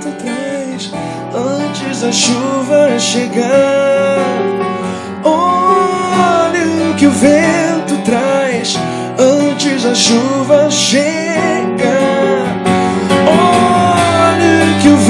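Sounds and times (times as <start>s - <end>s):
man singing into a microphone: 0.0s - 15.0s
strummed acoustic guitar: 0.0s - 15.0s.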